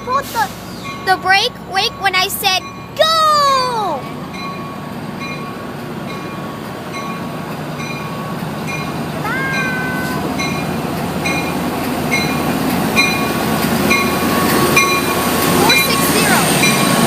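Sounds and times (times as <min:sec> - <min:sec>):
diesel train rumble: 0:00.0 - 0:17.0
locomotive bell ringing: 0:00.8 - 0:17.0.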